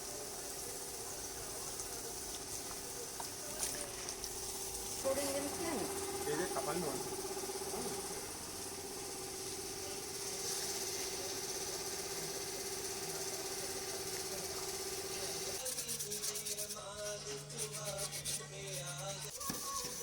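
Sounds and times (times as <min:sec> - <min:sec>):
mechanical hum: 0:00.0 - 0:20.0
rhythmic rubbing strokes: 0:00.0 - 0:20.0.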